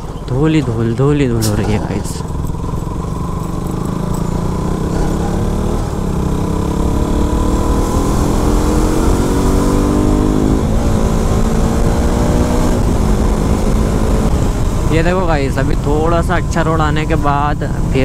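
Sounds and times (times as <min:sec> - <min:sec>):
motorcycle engine under load: 0:00.0 - 0:14.9.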